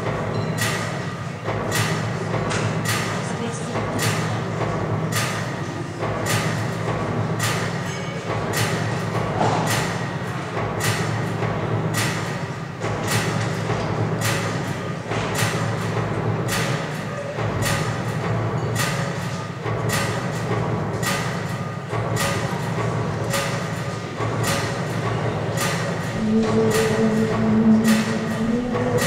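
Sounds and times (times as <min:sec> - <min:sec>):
sharp percussive hits: 0:00.0 - 0:29.0
steady low drone: 0:00.0 - 0:29.0.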